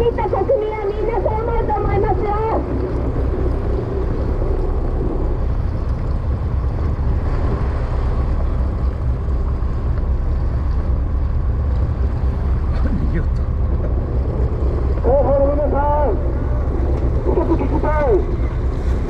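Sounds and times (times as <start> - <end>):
boat engine rumble: 0.0 - 19.0
wind buffeting microphone: 0.0 - 19.0.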